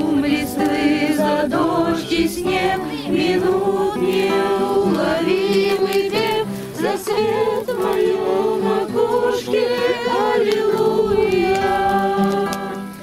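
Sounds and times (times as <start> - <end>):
acoustic guitars strummed: 0.0 - 13.0
group singing together: 0.0 - 13.0.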